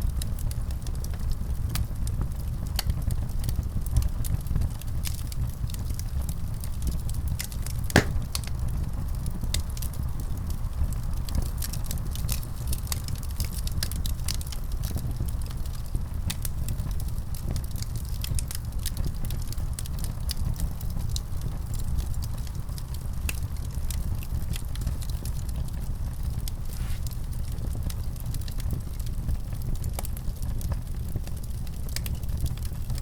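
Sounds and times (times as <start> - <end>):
low rumble of flames: 0.0 - 33.0
fire popping and ticking: 0.1 - 33.0.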